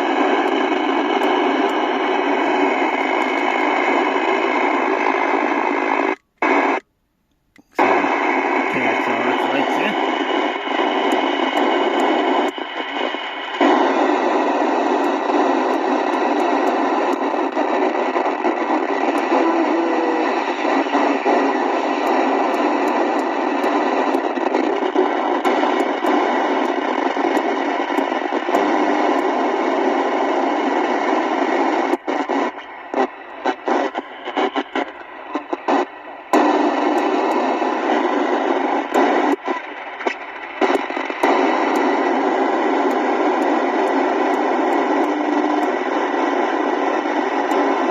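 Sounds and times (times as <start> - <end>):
radio static hiss: 0.0 - 6.9, 7.6 - 47.9.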